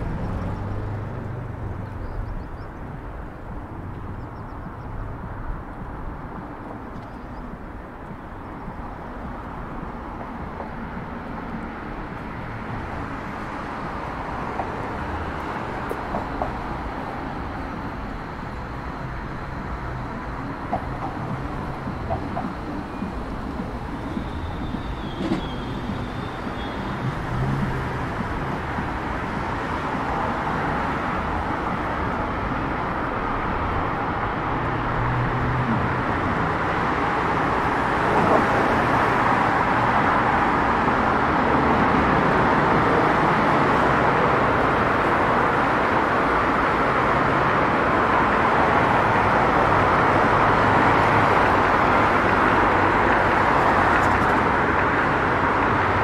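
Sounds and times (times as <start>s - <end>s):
passing cars: 0.0s - 56.0s.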